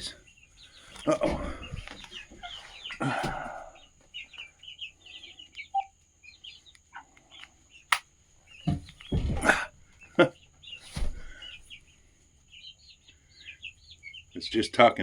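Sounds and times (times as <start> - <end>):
hens clucking and chirping: 0.0 - 15.0.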